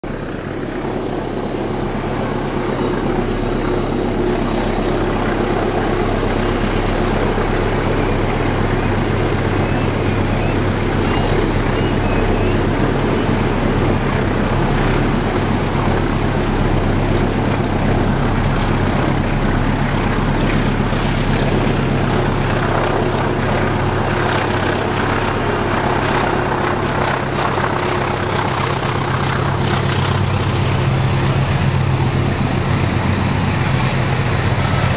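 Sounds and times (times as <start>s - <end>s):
diesel locomotive engine drone: 0.0s - 34.9s.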